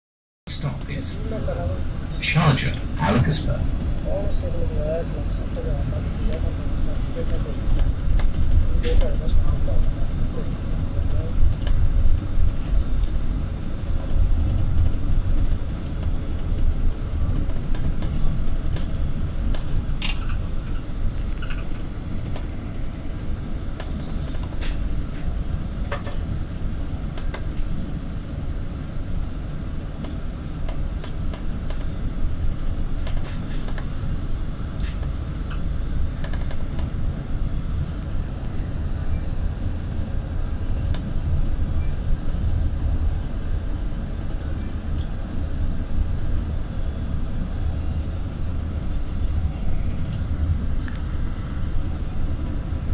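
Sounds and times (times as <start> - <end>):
vehicle engine and tyre rumble: 0.5 - 52.9.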